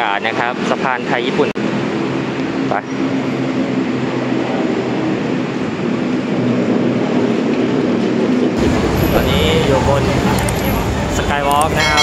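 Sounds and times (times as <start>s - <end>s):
rumble of vehicles: 0.0s - 12.0s.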